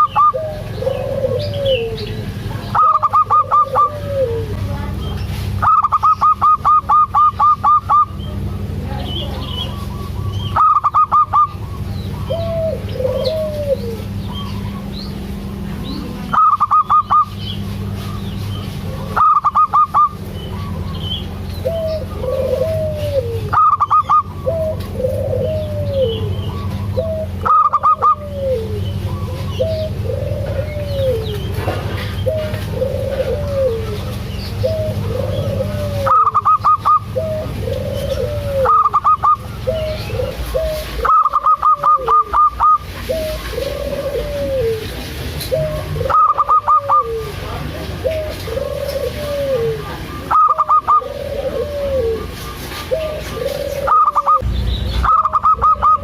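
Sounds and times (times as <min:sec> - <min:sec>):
dove calling: 0:00.0 - 0:56.0
steady low hum: 0:00.0 - 0:56.0.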